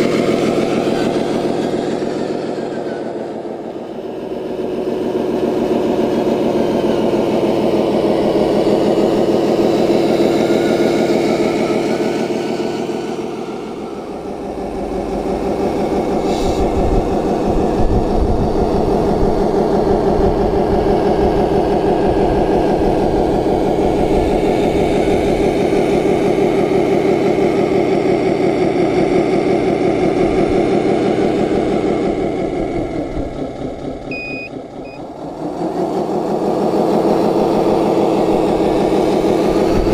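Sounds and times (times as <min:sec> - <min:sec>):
simulated diesel engine running: 0:00.0 - 0:39.9.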